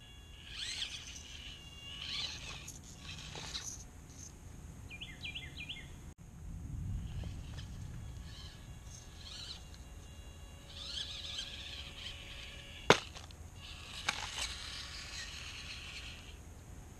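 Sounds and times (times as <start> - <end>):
birds chirping: 0.0 - 6.1, 7.2 - 16.4.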